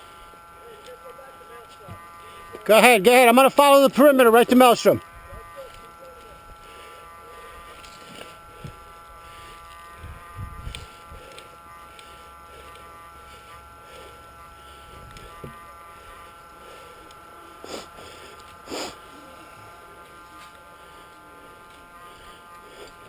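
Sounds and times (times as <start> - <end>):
high electrical whine: 0.0 - 23.0.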